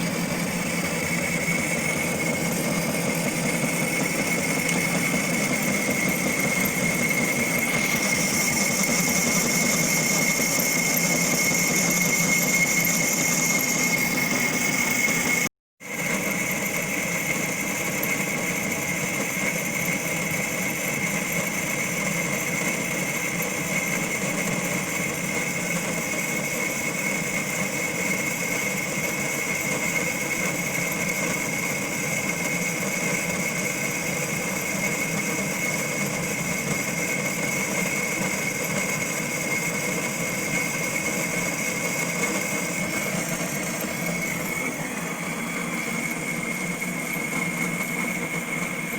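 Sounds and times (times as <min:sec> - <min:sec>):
metal lathe whining: 0:00.0 - 0:48.9.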